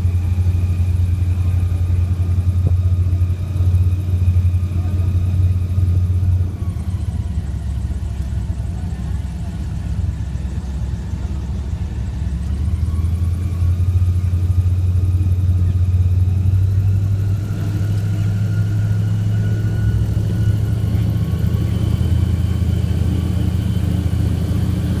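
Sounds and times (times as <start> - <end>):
airboat engine and propeller drone: 0.0 - 25.0.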